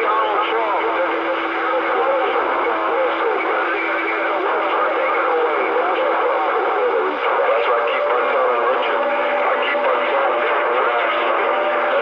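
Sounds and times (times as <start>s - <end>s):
radio static: 0.0s - 12.0s
warbling radio transmissions: 0.0s - 12.0s.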